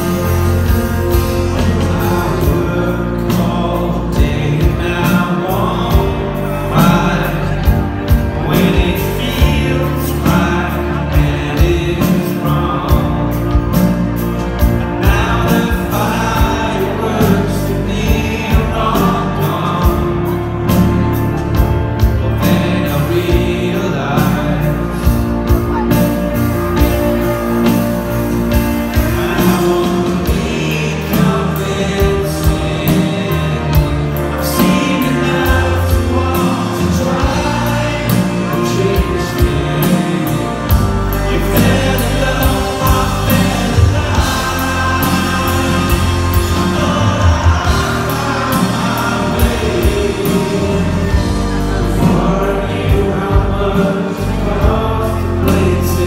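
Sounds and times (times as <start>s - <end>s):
bass guitar: 0.0s - 56.0s
man singing: 0.0s - 56.0s
steady drum beat: 0.0s - 56.0s.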